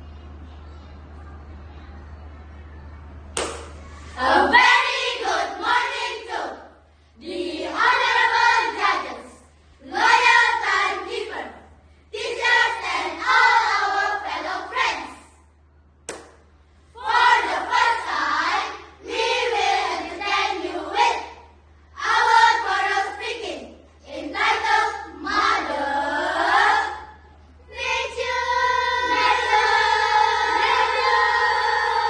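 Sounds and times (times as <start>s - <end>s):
children chanting in unison: 4.1s - 15.4s, 17.0s - 32.0s.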